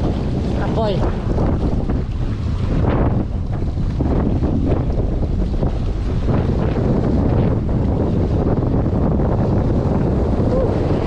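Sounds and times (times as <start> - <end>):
waves washing over rocks: 0.0 - 11.0
wind buffeting microphone: 0.0 - 11.0.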